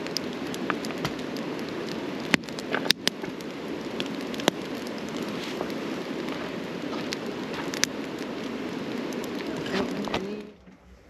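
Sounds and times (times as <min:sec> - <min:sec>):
campfire crackling and popping: 0:00.0 - 0:10.8.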